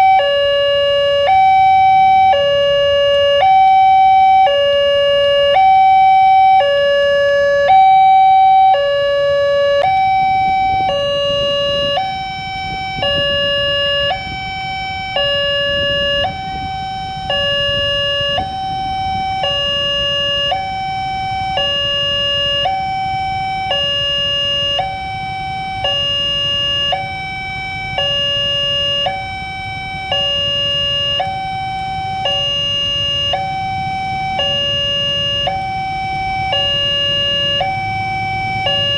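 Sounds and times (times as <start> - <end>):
two-tone crossing warning siren: 0.0 - 38.9.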